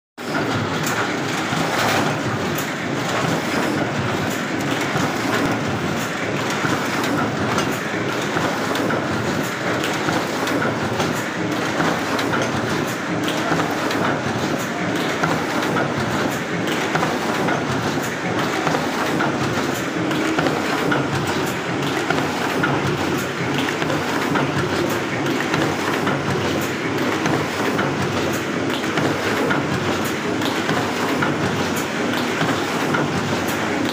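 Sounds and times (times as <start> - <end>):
printing press clattering: 0.2 - 33.9.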